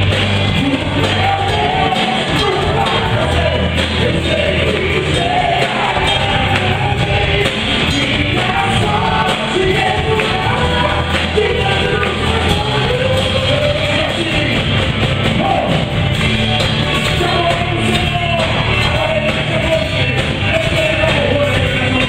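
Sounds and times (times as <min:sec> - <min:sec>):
person singing lead vocal: 0:00.0 - 0:15.9, 0:17.0 - 0:22.0
rock band playing: 0:00.0 - 0:22.0.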